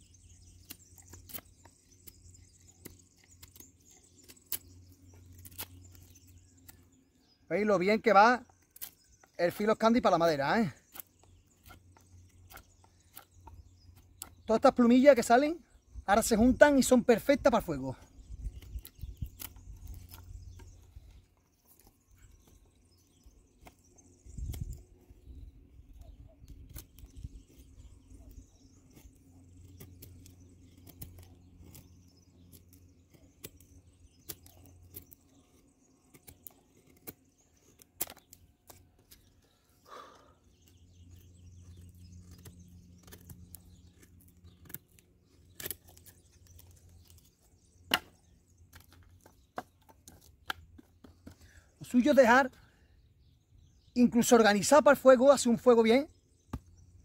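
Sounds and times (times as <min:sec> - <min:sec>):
knife scraping wood: 0:00.2 - 0:07.4, 0:08.4 - 0:14.8, 0:17.6 - 0:51.7.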